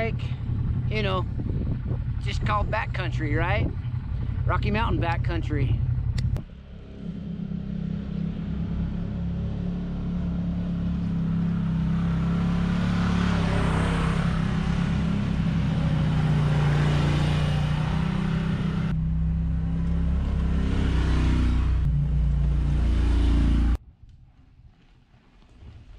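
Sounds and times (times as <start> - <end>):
engine droning: 0.0 - 24.3.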